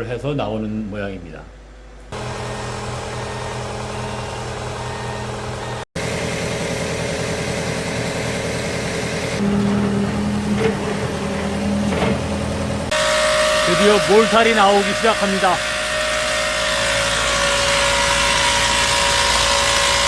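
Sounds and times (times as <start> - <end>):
truck engine humming: 1.8 - 20.0.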